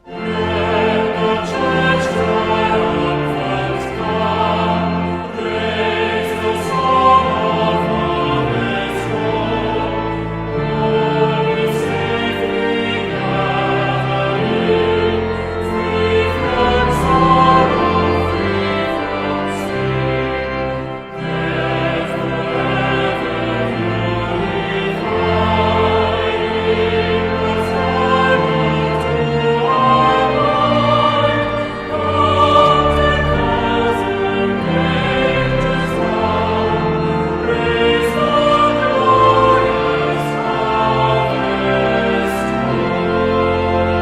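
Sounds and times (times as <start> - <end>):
choir singing with accompaniment: 0.0 - 44.0.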